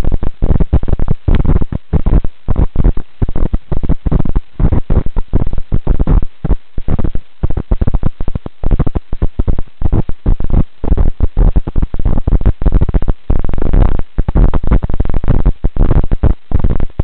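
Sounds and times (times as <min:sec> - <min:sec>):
choppy low rumbling on microphone: 0:00.0 - 0:17.0.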